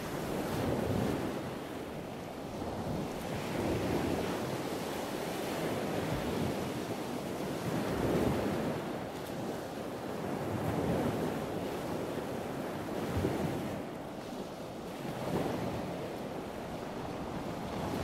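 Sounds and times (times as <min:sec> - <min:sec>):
sea surf breaking on beach: 0:00.0 - 0:18.0.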